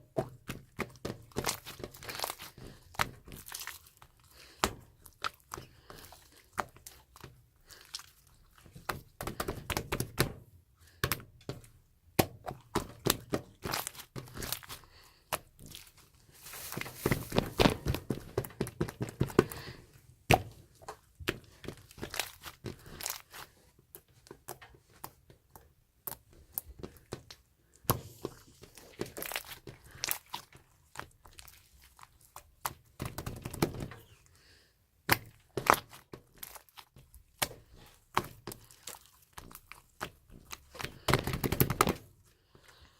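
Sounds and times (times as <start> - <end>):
slime squishing with sticky clicks: 0.0 - 34.2, 35.0 - 42.1.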